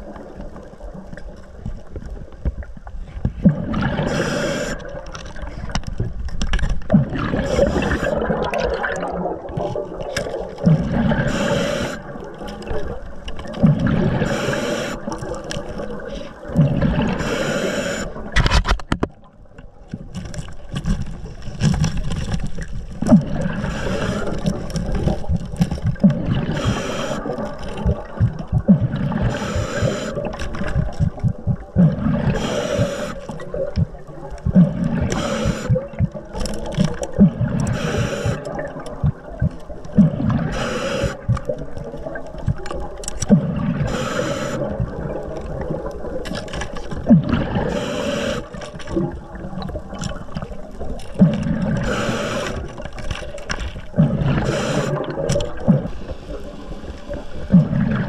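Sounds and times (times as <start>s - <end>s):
bubbles gurgling underwater: 0.0s - 18.4s, 19.1s - 58.0s
low rumble of water: 0.0s - 58.0s.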